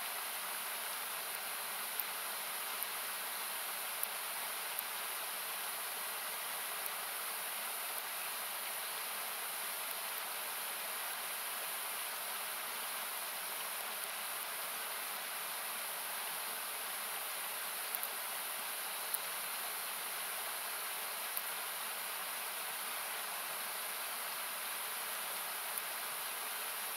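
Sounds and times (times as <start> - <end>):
river rushing hiss: 0.0 - 26.9
campfire crackles: 0.1 - 26.9.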